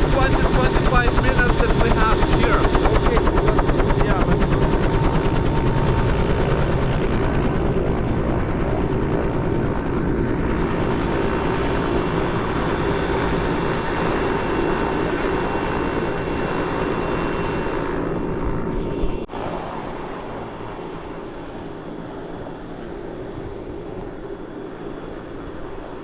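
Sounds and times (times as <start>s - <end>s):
helicopter rotor and turbine: 0.0s - 26.0s.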